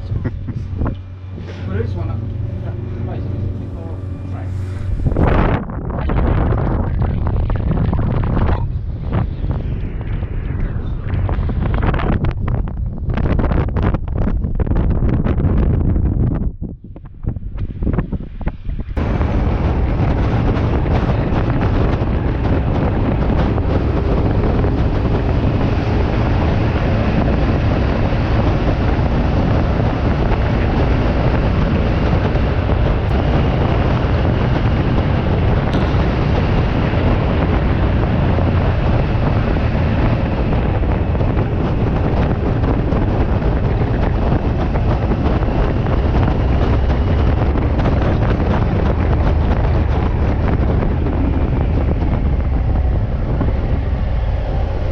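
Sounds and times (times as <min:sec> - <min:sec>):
constant low rumble: 0:00.0 - 0:54.9
wind rushing over microphone: 0:00.0 - 0:54.9.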